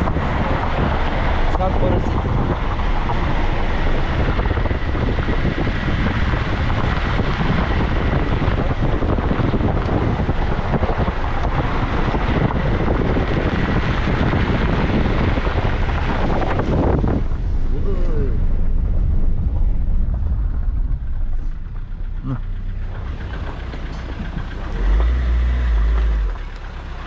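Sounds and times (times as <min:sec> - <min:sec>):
car driving on gravel: 0:00.0 - 0:27.0
wind buffeting microphone: 0:00.0 - 0:27.0.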